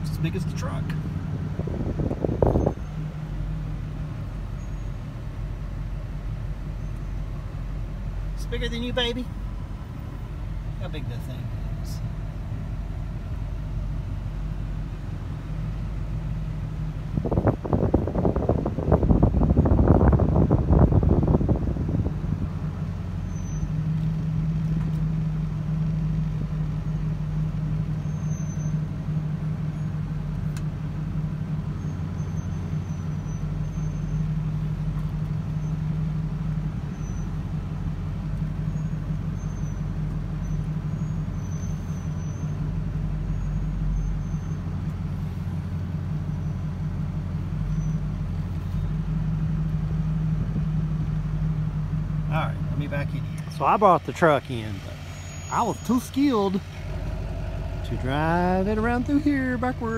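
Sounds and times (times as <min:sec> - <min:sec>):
truck engine low drone: 0:00.0 - 0:59.9.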